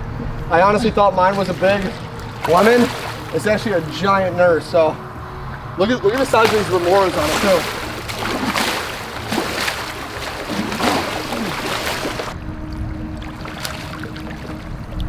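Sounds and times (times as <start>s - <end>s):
steady low hum: 0.0s - 15.0s
water sloshing: 0.3s - 15.0s
water splashing hard: 0.7s - 4.9s, 5.8s - 12.4s, 13.1s - 14.9s.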